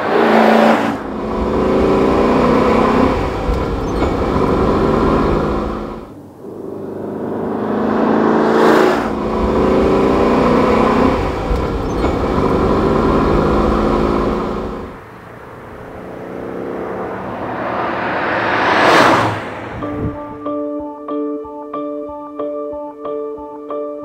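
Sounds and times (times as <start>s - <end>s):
car engine accelerating: 0.0s - 20.5s.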